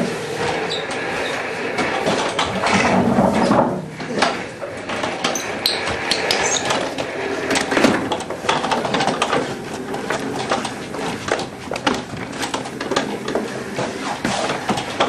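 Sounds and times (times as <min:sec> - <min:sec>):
office chair casters rattling: 0:00.0 - 0:15.0.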